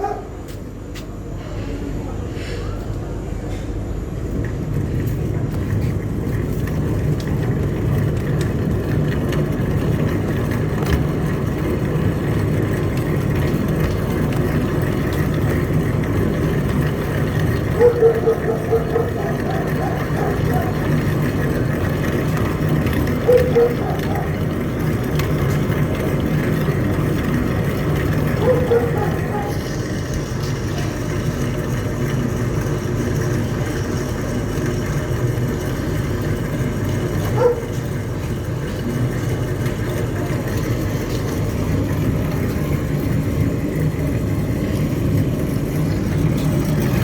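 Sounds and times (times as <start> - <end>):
exhaust fan humming: 0.0 - 47.0.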